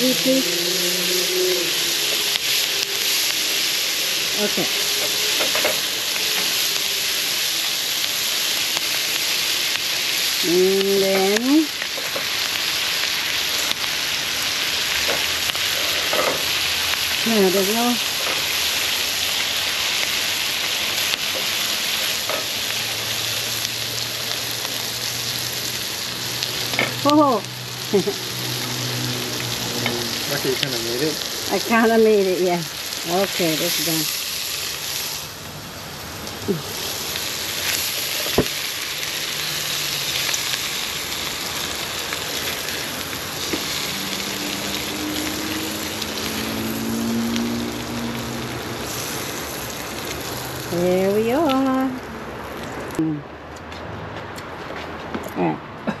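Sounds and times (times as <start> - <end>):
onions and garlic sizzling: 0.0 - 53.1.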